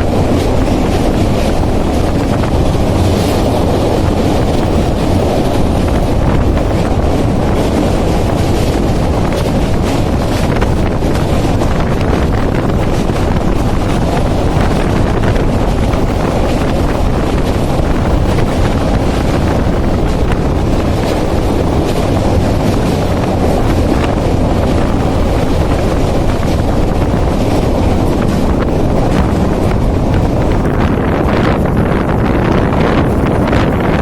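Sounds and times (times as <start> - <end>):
train rumbling: 0.0 - 34.0
wind buffeting microphone: 0.0 - 34.0.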